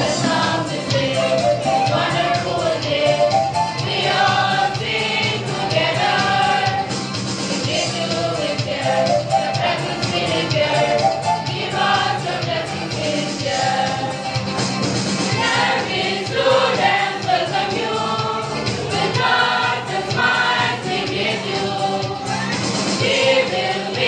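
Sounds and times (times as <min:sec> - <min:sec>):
group singing in chorus: 0:00.0 - 0:14.4, 0:15.1 - 0:24.0
instrumental accompaniment: 0:00.0 - 0:24.0.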